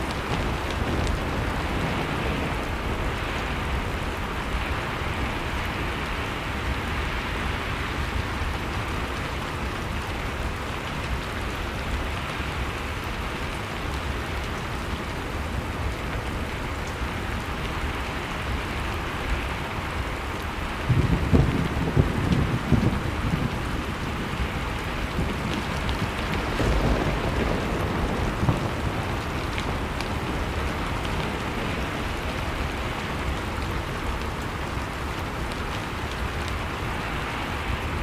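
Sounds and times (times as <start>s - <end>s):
faint fire crackles: 0.0s - 38.0s
storm wind hiss: 0.0s - 38.0s.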